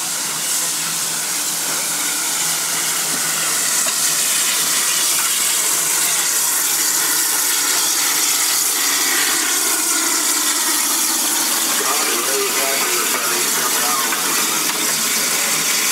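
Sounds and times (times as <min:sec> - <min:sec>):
steam venting hiss: 0:00.0 - 0:15.9.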